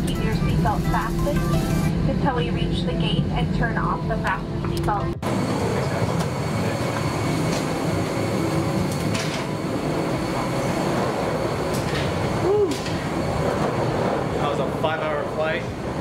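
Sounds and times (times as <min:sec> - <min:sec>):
airliner mechanical drone: 0:00.0 - 0:16.0.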